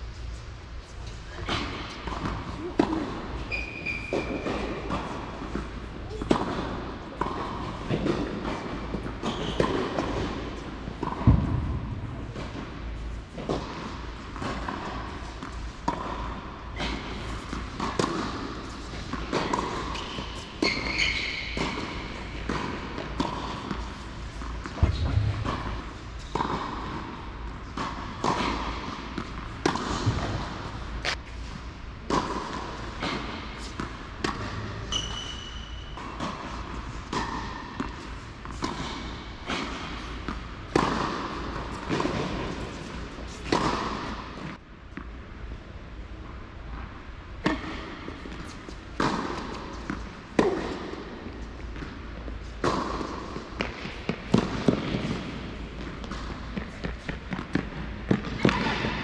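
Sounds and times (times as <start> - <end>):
tennis balls bouncing on court: 1.4 - 31.2, 32.1 - 45.2, 47.4 - 59.0
tennis balls hit by racquets: 1.4 - 45.2, 47.3 - 59.0.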